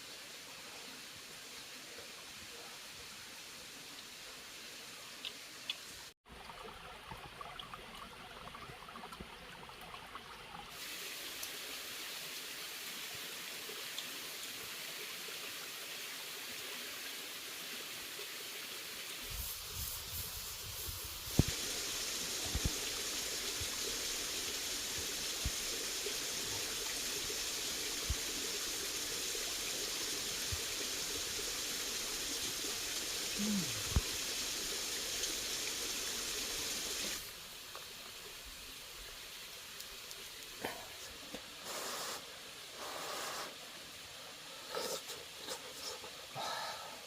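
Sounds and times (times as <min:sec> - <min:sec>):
running water: 0:00.0 - 0:47.0.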